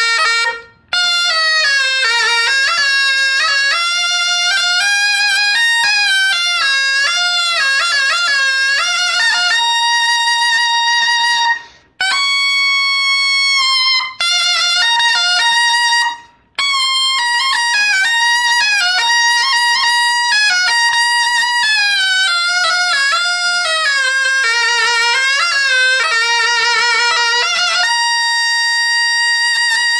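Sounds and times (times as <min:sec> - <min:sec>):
double-reed shawm melody: 0:00.0 - 0:29.9.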